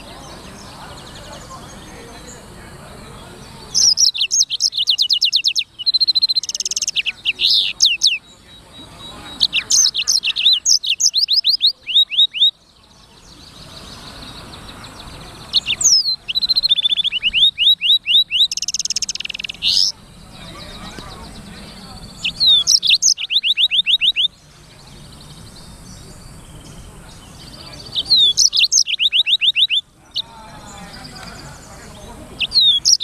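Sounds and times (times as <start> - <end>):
canary singing trills: 0.0 - 33.0.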